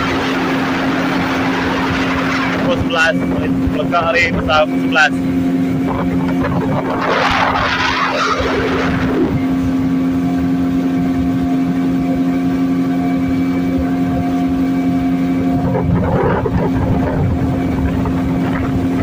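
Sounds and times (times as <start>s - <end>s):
boat engine running steadily: 0.0s - 19.0s.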